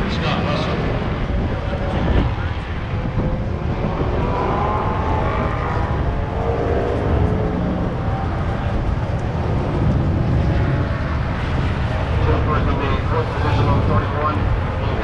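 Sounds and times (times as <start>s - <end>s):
faint gliding engine notes: 0.0s - 15.0s
moving tram rumble: 0.0s - 15.0s.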